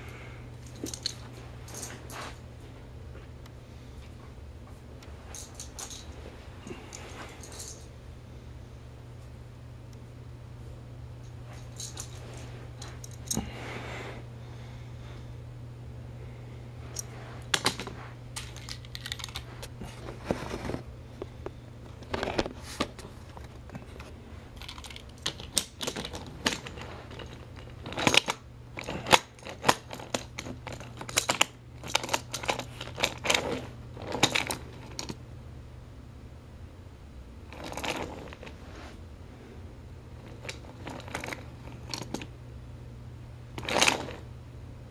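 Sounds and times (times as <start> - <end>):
low hum: 0.0 - 44.9.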